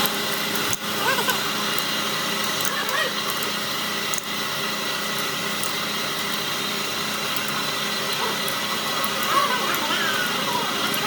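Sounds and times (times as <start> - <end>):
machine whirring: 0.0 - 11.0.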